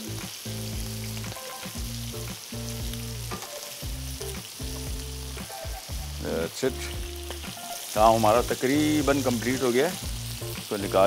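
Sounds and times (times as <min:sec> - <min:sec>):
oil sizzling while deep-frying: 0:00.0 - 0:11.0.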